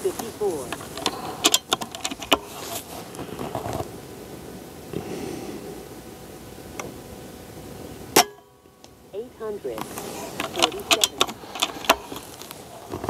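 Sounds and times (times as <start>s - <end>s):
quiet hiss and rustle: 0.0s - 13.0s.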